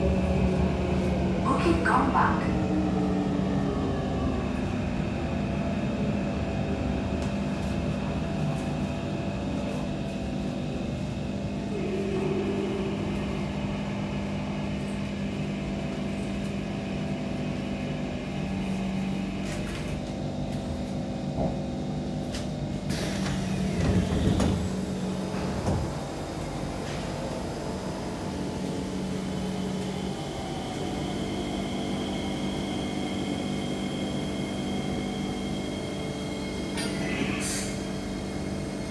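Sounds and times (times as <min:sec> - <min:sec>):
train running noise: 0:00.0 - 0:38.9.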